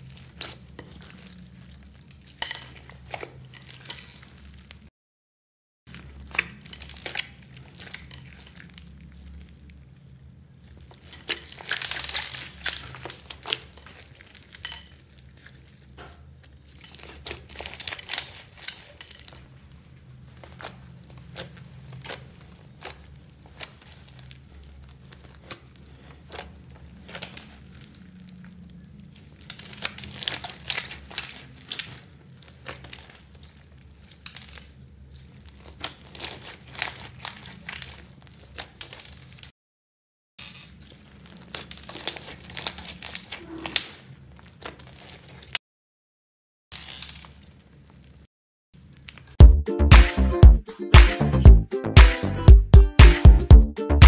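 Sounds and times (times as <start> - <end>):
hands squeezing crackly slime: 0.0 - 4.9, 5.9 - 39.5, 40.7 - 45.6.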